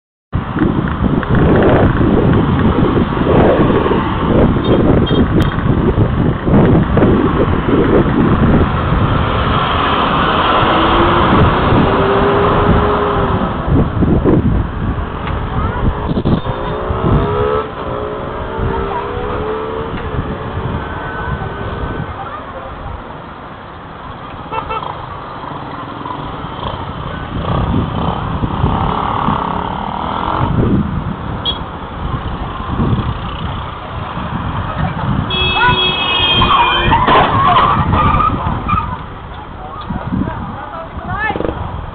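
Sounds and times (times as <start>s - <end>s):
wind rumbling on microphone: 0.3s - 41.9s
motorcycle engines passing: 0.4s - 41.9s.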